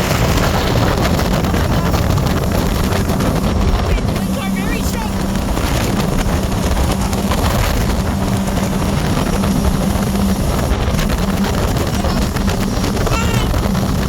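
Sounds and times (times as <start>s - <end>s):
boat engine running at speed: 0.0s - 14.0s
wind buffeting microphone: 0.0s - 14.0s.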